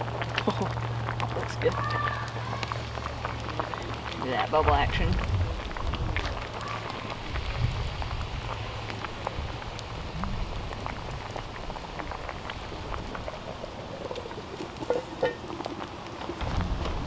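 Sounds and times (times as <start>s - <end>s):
soup bubbling: 0.0s - 17.0s.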